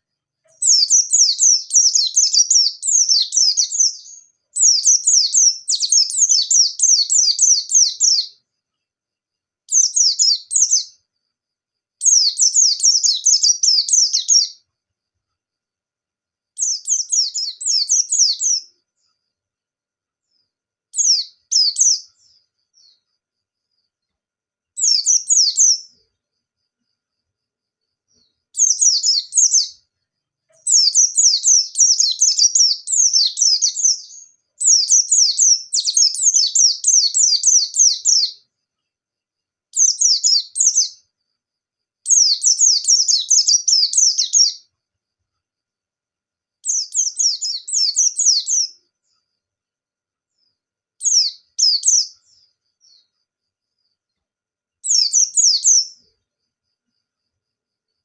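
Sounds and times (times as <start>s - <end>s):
bird twittering song: 0.0s - 14.8s, 16.5s - 19.4s, 20.1s - 41.4s, 42.0s - 44.7s, 46.6s - 49.4s, 50.3s - 54.2s, 54.8s - 57.2s.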